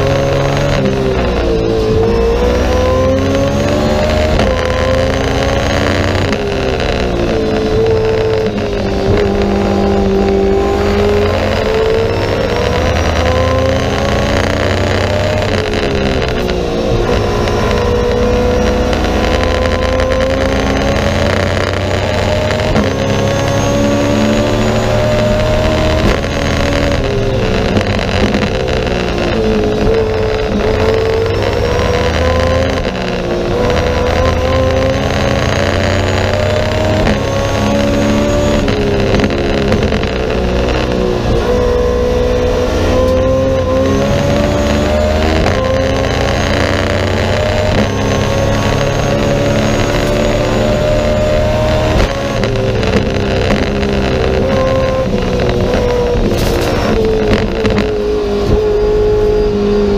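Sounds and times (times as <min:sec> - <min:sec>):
race car engine revving through gears: 0:00.0 - 0:59.9.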